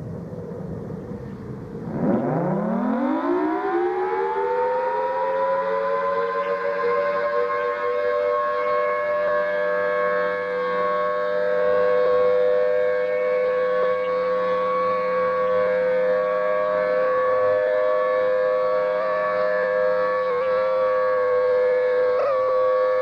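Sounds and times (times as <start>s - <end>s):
warning siren two-tone wail: 1.8s - 23.0s.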